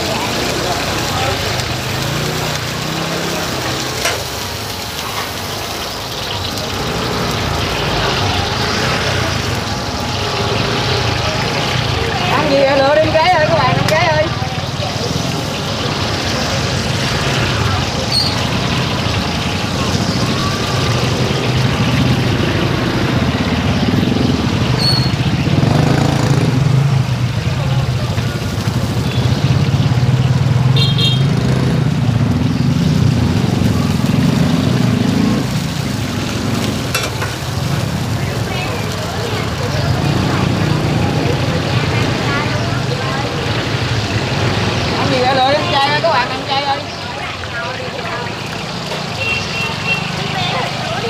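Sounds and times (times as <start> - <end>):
squid sizzling in hot oil: 0.0 - 31.2, 31.8 - 51.0.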